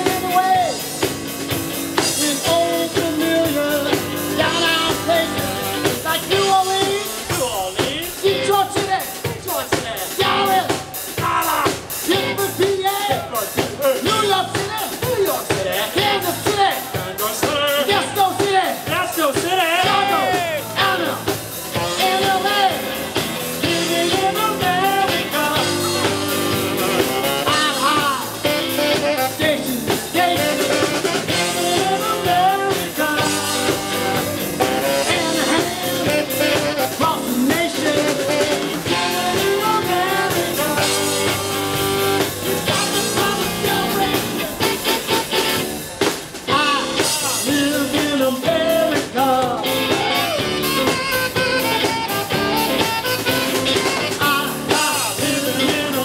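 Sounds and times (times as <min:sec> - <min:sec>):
man singing: 0:00.0 - 0:01.1, 0:01.9 - 0:56.0
electric bass: 0:00.0 - 0:12.8, 0:13.5 - 0:56.0
drum kit: 0:00.0 - 0:56.0
electric guitar: 0:00.0 - 0:56.0.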